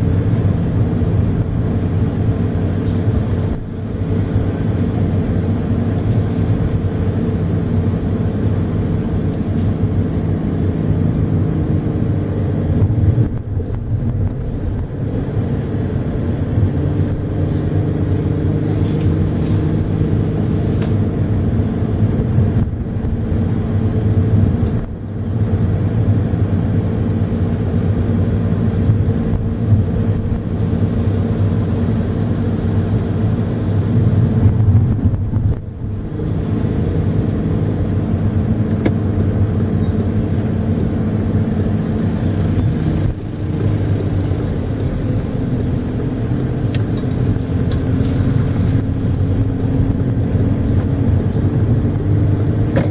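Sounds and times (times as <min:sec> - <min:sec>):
diesel engine running: 0:00.0 - 0:52.9
tyre and road noise: 0:00.0 - 0:52.9.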